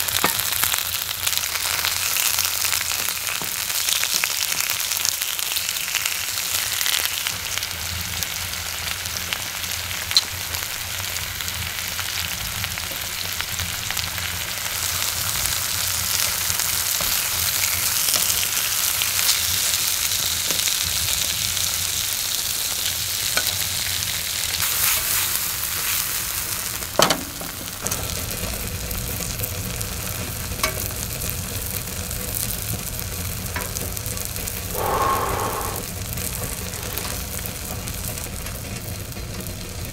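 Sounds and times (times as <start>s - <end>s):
food sizzling in a pan: 0.0s - 39.8s.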